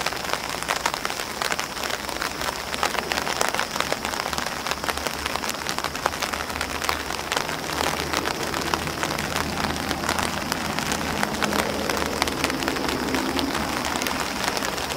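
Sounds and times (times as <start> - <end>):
rain pattering on umbrella: 0.0 - 14.9.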